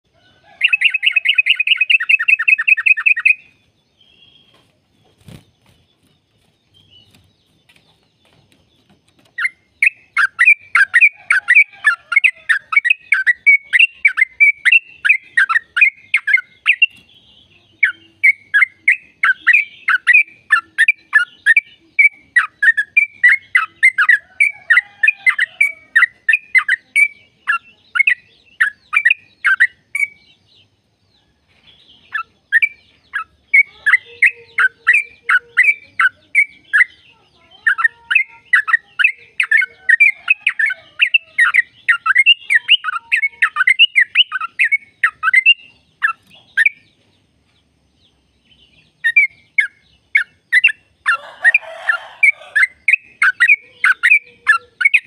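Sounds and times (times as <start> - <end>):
bulbul singing rapid song: 0.4 - 55.0.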